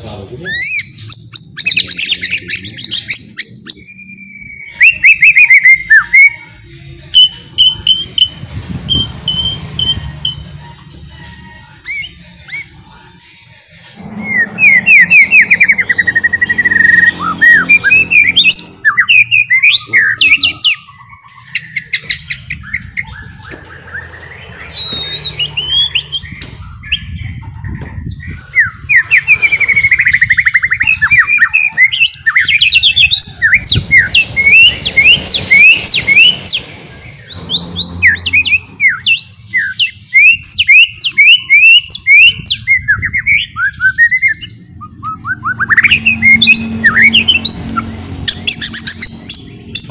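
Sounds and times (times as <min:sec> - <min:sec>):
songbird chirps and trills: 0:00.0 - 0:49.9.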